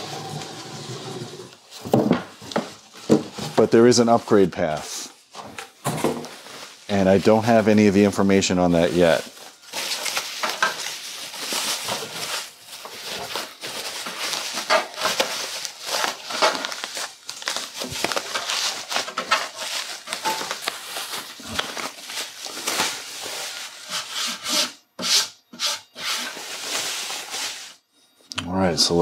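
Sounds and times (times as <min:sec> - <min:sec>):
plastic bag rustling and crinkling: 0:01.6 - 0:24.1, 0:26.3 - 0:27.9.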